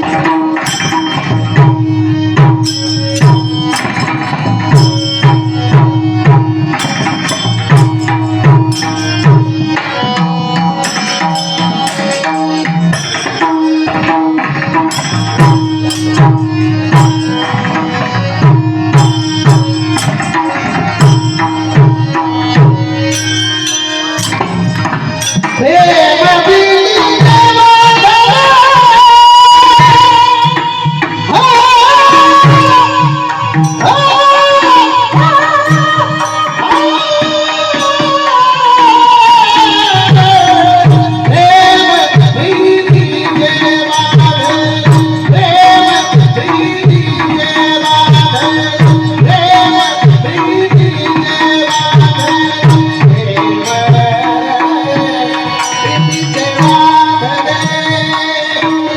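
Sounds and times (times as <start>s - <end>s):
drum steady rhythm: 0.0s - 58.9s
person singing ornamented notes: 0.0s - 58.9s.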